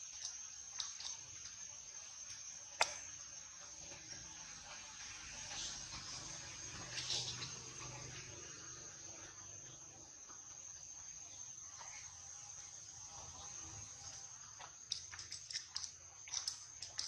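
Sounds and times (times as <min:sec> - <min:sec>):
insect high-pitched drone: 0:00.0 - 0:17.0.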